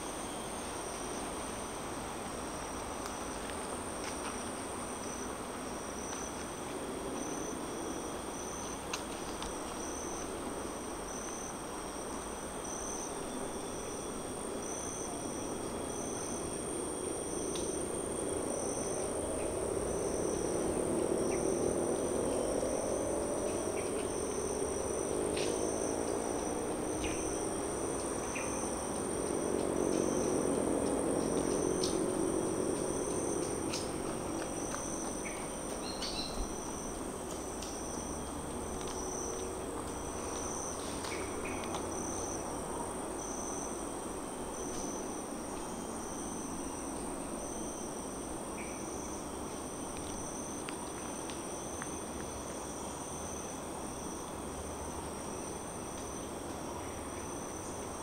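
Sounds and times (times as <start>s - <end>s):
highway traffic rumble: 0.0s - 58.0s
insect chirping in pulses: 7.2s - 58.0s.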